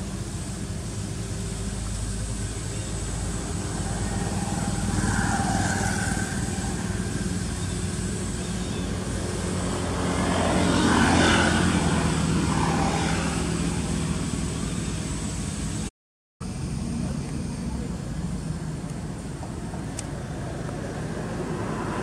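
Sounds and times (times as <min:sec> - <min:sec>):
passing motor vehicle engine hum: 0:00.0 - 0:22.0.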